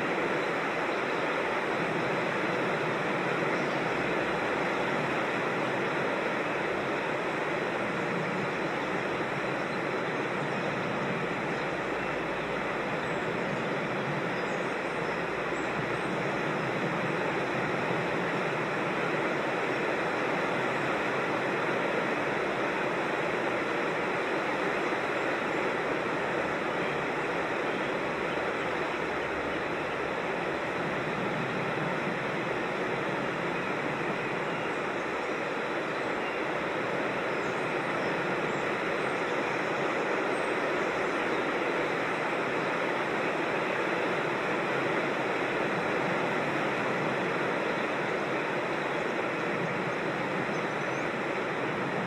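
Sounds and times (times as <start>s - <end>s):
creek water rushing: 0.0s - 52.0s.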